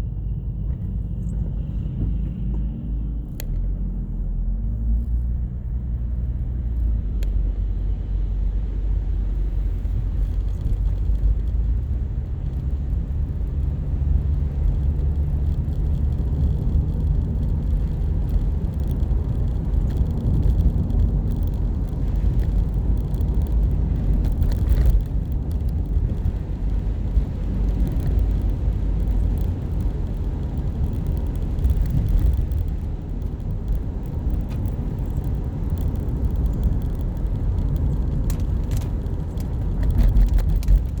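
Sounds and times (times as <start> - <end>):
car engine rumble: 0.0 - 41.0
road noise: 0.0 - 41.0.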